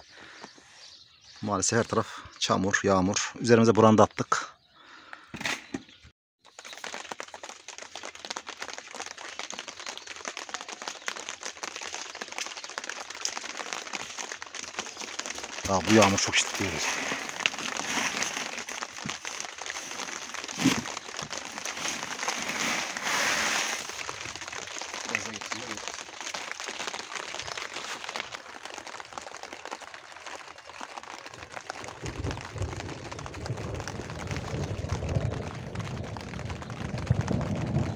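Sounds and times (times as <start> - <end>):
very heavy rain crackling: 6.8 - 37.9.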